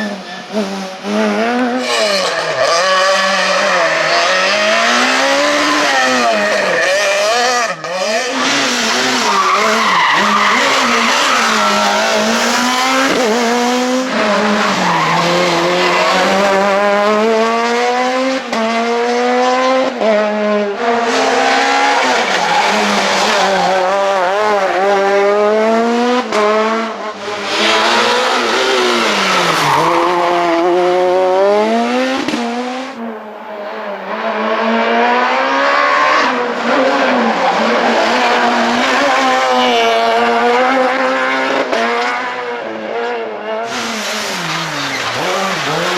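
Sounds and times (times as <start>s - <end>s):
rally car engine at full throttle: 0.0s - 45.9s.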